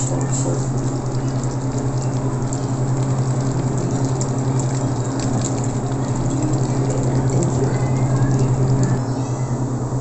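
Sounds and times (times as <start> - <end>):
sauce simmering and bubbling: 0.0 - 9.1
low electrical hum: 0.0 - 10.0.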